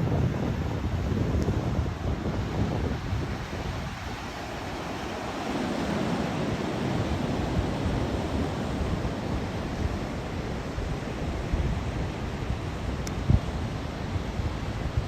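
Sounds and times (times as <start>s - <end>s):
surf washing on beach: 0.0s - 15.0s
wind rumbling on microphone: 0.0s - 15.0s.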